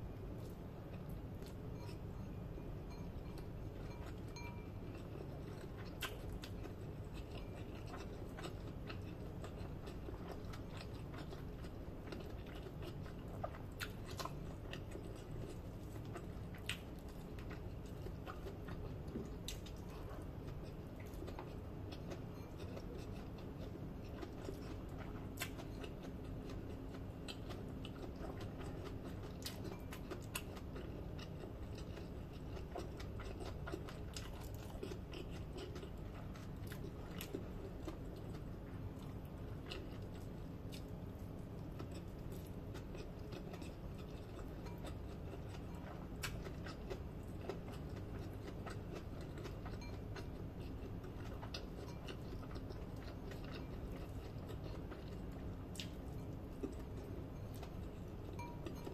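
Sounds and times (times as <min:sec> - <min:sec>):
steady low hum: 0:00.0 - 0:58.9
person chewing and smacking: 0:00.4 - 0:58.9.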